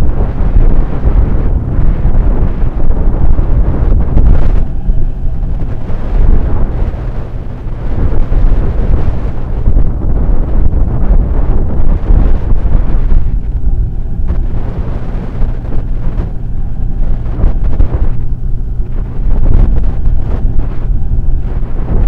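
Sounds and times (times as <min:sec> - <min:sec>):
motorcycle engine droning: 0:00.0 - 0:22.0
wind buffeting microphone: 0:00.0 - 0:22.0.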